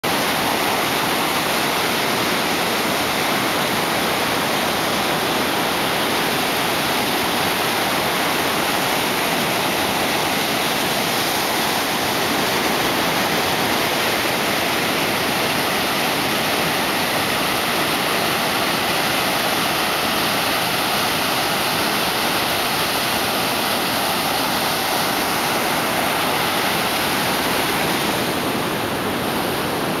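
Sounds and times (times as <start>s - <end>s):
ocean surf breaking over rocks: 0.1s - 30.0s.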